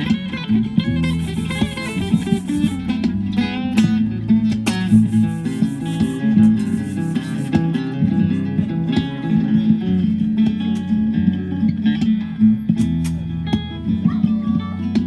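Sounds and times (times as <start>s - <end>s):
looped accompaniment: 0.0s - 12.4s
amplified jazz guitar picked and strummed: 0.0s - 15.0s.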